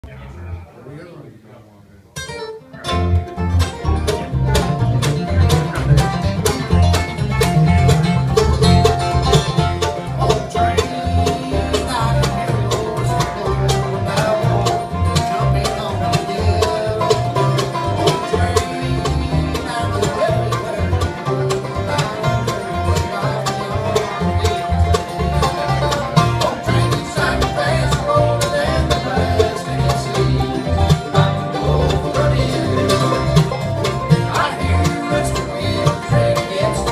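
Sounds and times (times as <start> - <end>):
bluegrass band playing: 2.0 - 36.9.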